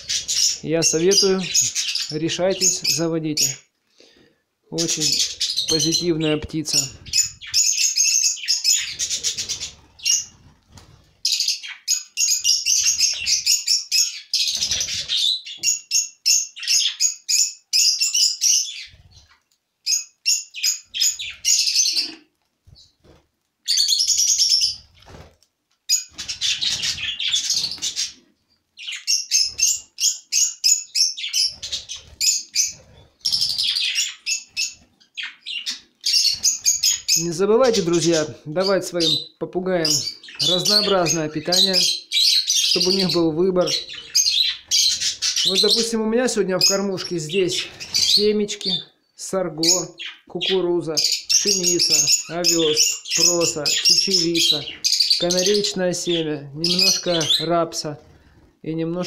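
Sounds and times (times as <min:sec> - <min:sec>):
budgerigars chirping: 0:00.0 - 0:03.6, 0:04.8 - 0:10.6, 0:11.2 - 0:22.2, 0:23.6 - 0:25.1, 0:25.9 - 0:49.0, 0:49.6 - 0:58.5.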